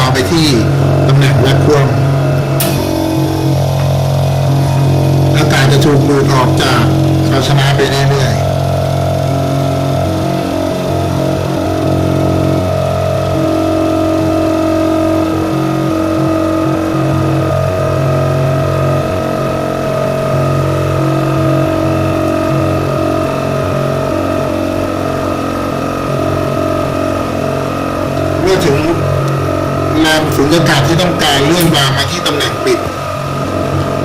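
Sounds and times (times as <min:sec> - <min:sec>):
electric vacuum pump humming: 0:00.0 - 0:34.0.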